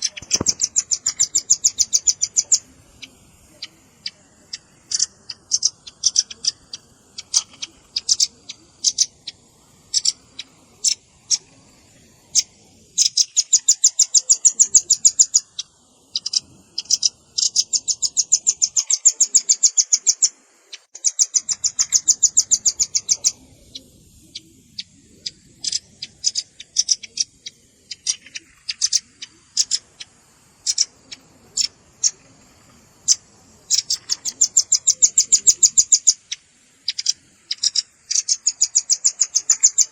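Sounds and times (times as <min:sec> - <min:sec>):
bird calls with fast trills: 0:00.0 - 0:39.9.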